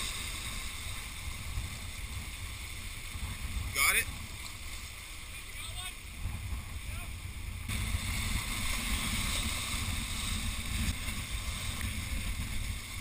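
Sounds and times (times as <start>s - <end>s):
waves washing against rocks: 0.0s - 13.0s
wind on microphone: 0.0s - 13.0s.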